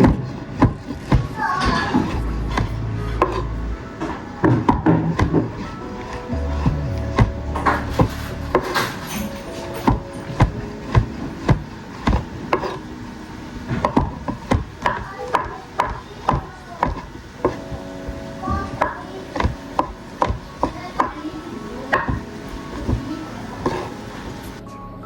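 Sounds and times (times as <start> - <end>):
knife chopping on wooden board: 0.0 - 9.0, 9.6 - 12.9, 13.7 - 17.8, 18.7 - 21.1, 21.9 - 24.0.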